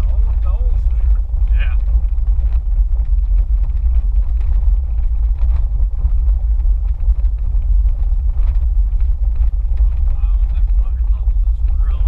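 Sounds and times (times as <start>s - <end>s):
off-road vehicle rumbling: 0.0s - 12.0s.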